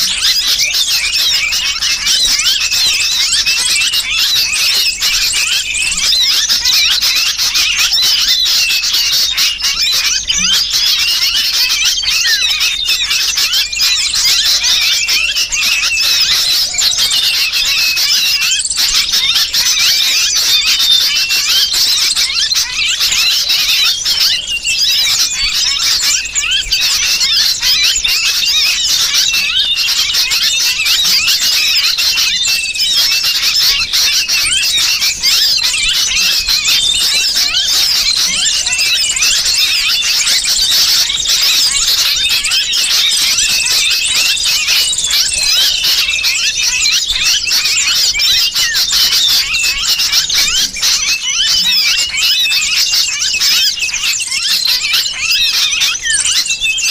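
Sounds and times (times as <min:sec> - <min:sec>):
bird squealing distress calls: 0:00.0 - 0:56.9
small birds chirping: 0:00.0 - 0:56.9.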